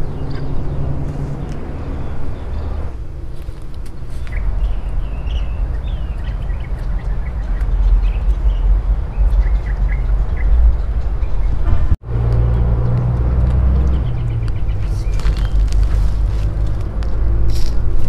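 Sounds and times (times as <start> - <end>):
small birds chirping: 0.0 - 11.6, 12.5 - 16.7
steady low rumble: 0.0 - 18.0.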